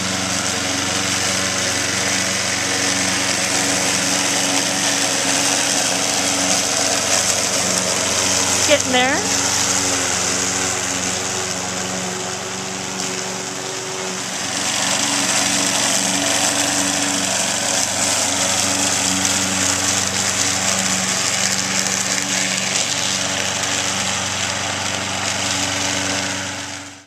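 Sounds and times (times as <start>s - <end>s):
lawn mower running: 0.0s - 27.0s.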